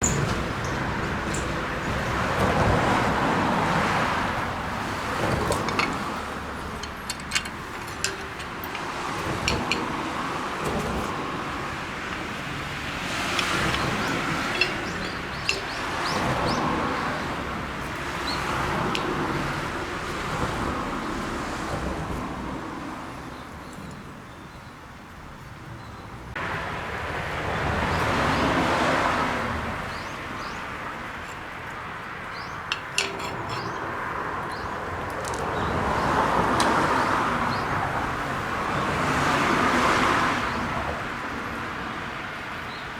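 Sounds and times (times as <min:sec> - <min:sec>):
cars passing: 0:00.0 - 0:23.4, 0:26.1 - 0:42.9.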